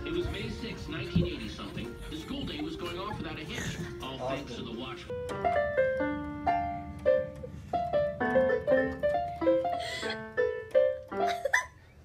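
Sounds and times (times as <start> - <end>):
electronic keyboard piano melody: 0.0 - 12.0.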